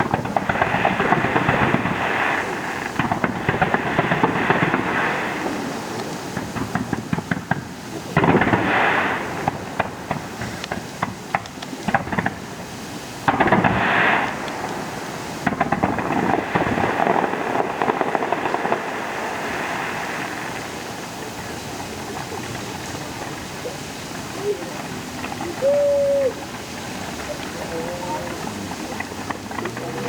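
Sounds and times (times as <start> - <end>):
fireworks cracking and crackling: 0.0 - 30.0
loud firework bursts: 0.0 - 30.0.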